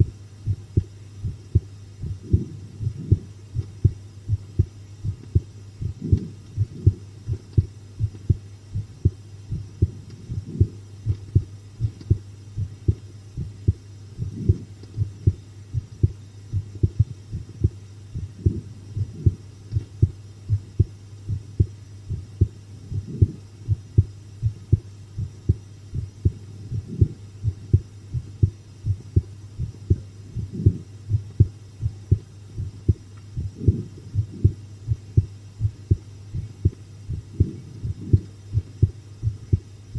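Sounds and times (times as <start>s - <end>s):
constant low hum: 0.0s - 39.9s
heartbeat thumps: 0.0s - 39.9s.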